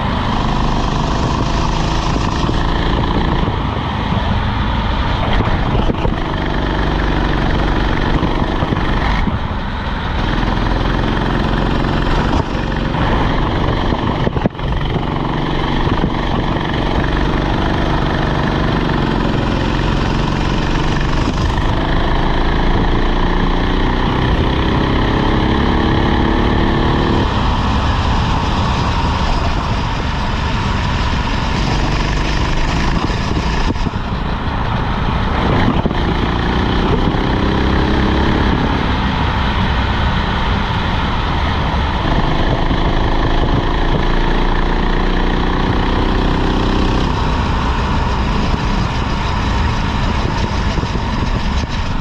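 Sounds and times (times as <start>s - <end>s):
go-kart engine revving: 0.0s - 52.0s.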